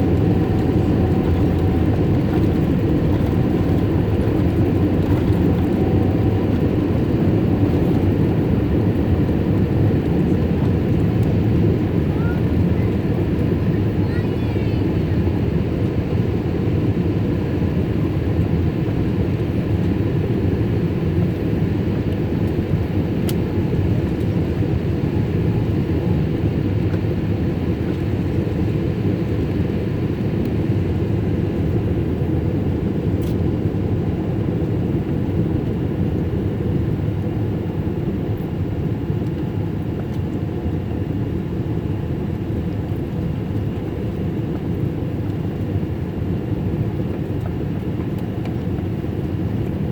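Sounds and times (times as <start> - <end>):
jet engine drone in cabin: 0.0 - 49.9.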